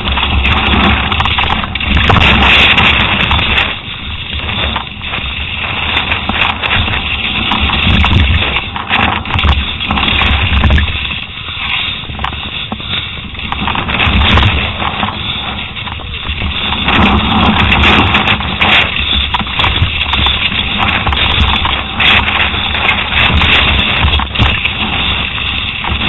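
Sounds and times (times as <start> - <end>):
bike knocks and rattles: 0.0 - 26.0
tyres rushing on loose dirt: 0.0 - 26.0
wind buffeting microphone: 0.0 - 26.0.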